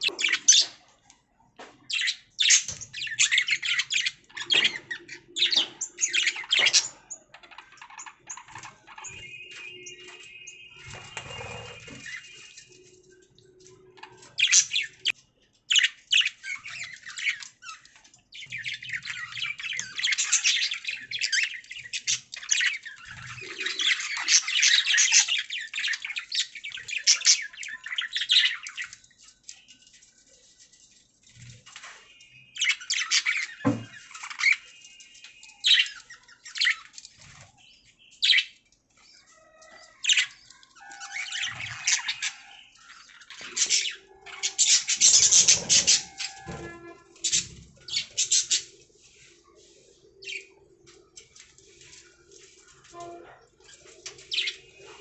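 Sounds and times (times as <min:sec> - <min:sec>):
budgerigars chirping and warbling: 0:00.0 - 0:00.9, 0:01.8 - 0:12.9, 0:13.8 - 0:30.0, 0:31.4 - 0:55.0.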